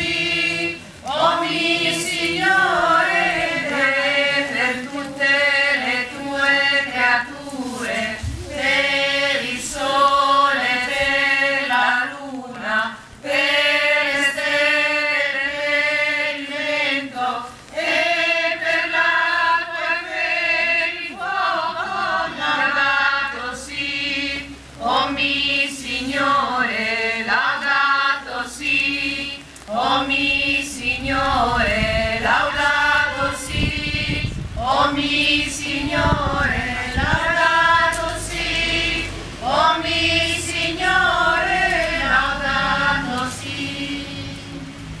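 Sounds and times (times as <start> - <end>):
choir singing a hymn unaccompanied: 0.0 - 45.0.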